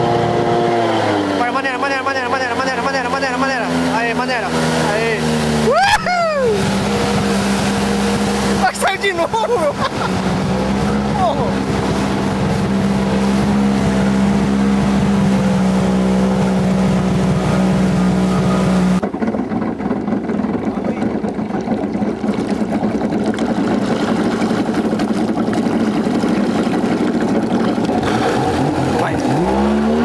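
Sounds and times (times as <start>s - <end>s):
boat engine running and revving: 0.0s - 30.0s.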